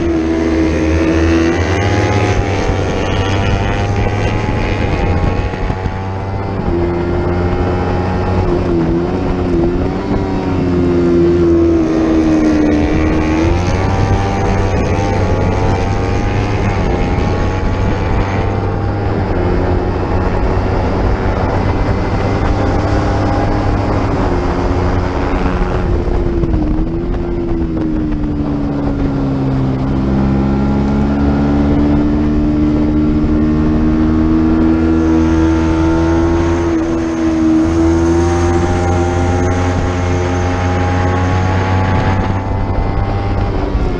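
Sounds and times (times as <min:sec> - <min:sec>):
racing motorcycle engine revving: 0:00.0 - 0:43.9.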